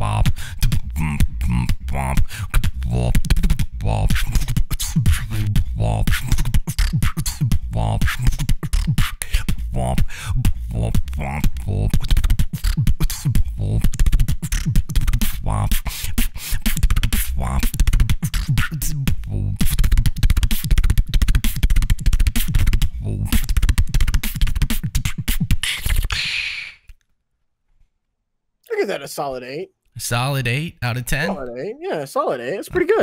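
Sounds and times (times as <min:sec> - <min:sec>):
beatbox hiss: 0:00.0 - 0:26.9
person beatboxing: 0:00.0 - 0:26.9.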